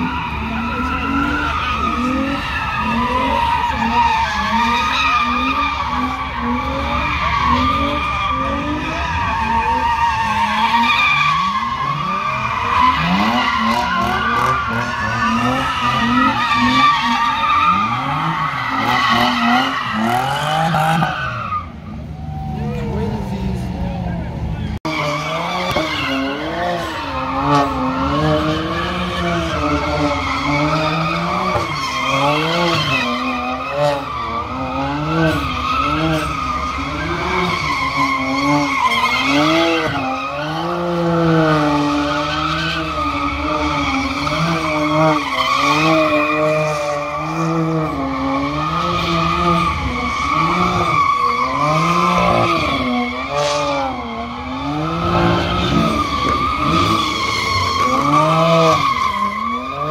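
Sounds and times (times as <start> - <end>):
car engine revving: 0.0 - 59.9
tires squealing on asphalt: 0.0 - 59.9.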